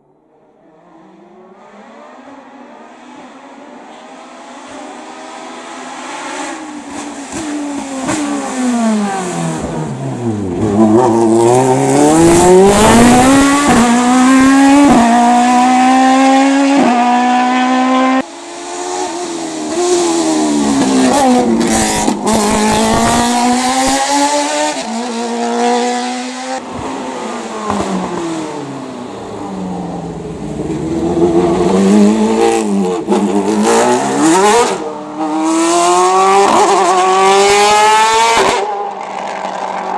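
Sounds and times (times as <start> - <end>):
race car engine revving: 1.5 - 39.9.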